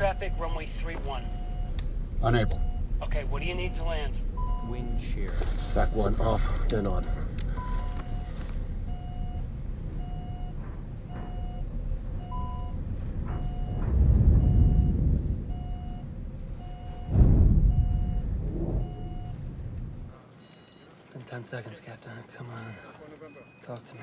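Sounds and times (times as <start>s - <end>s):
cockpit warning beeps: 0.0s - 19.5s, 20.2s - 24.0s
low rumble of airflow: 0.0s - 20.2s.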